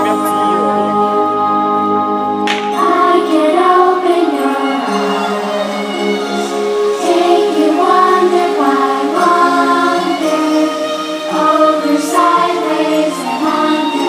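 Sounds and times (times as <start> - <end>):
choir singing long held notes: 0.0 - 14.0.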